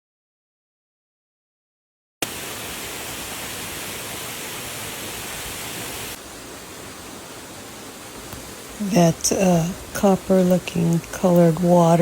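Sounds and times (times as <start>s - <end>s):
waterfall rushing: 2.2s - 12.0s.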